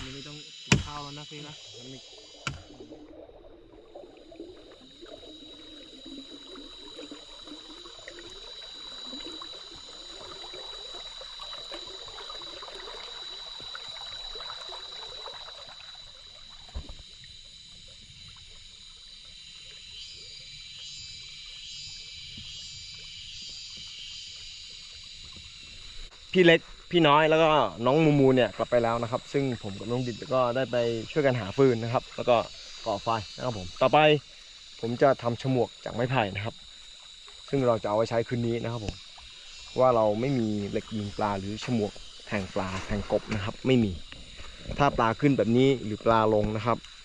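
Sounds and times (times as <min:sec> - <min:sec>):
high insect drone: 0:00.0 - 0:47.0
pulsing insect chirps: 0:00.0 - 0:47.0
stream trickling over stones: 0:00.0 - 0:47.0.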